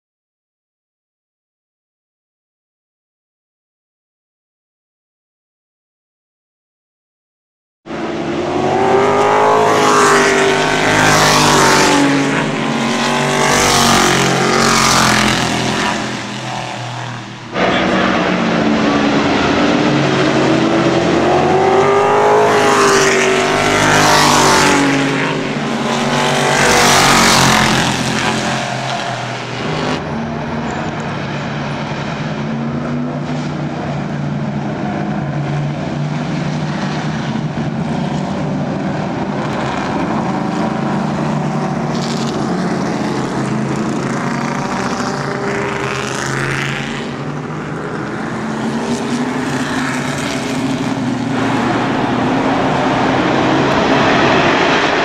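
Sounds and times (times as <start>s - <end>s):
race cars passing: 7.9s - 55.0s.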